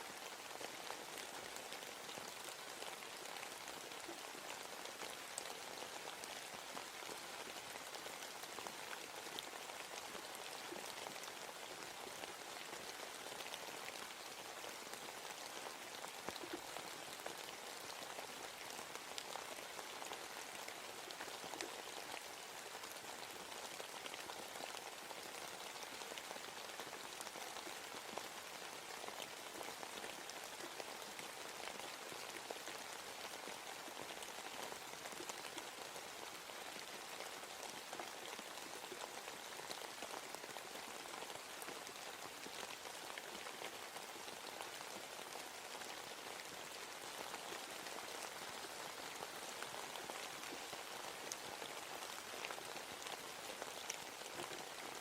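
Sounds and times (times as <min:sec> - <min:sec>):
rain pattering in forest: 0:00.0 - 0:55.0.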